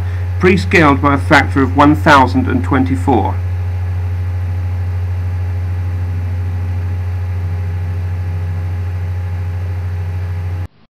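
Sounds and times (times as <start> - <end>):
high steady tones: 0.0 - 10.7
steady low hum: 0.0 - 10.8.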